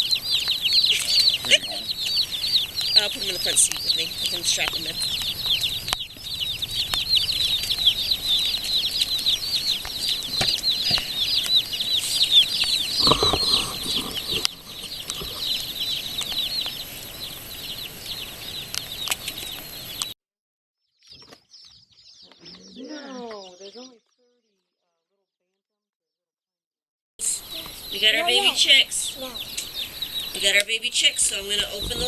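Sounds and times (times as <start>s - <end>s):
chicks peeping: 0.0s - 20.1s, 21.0s - 24.2s, 27.2s - 32.0s.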